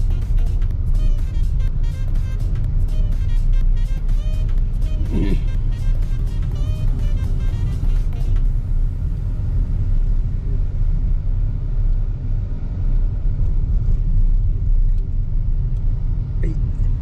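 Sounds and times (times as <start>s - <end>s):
car driving road noise: 0.0s - 17.0s.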